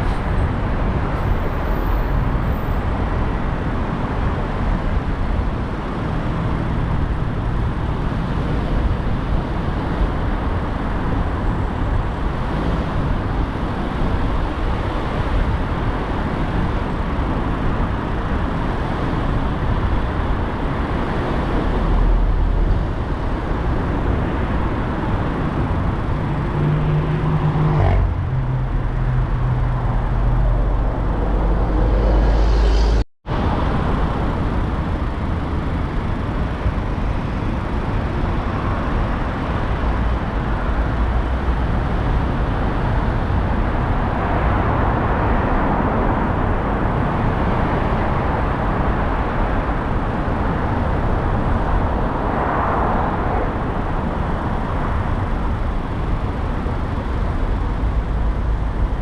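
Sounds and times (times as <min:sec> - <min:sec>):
car driving through traffic: 0:00.0 - 0:59.0.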